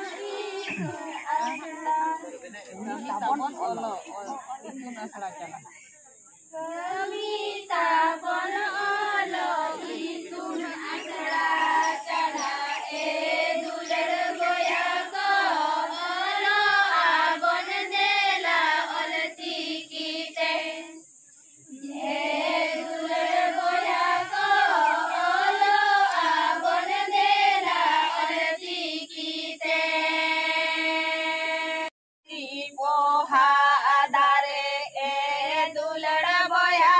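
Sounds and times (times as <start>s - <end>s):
women singing in unison: 0.0s - 3.2s, 6.5s - 21.1s, 21.7s - 36.9s.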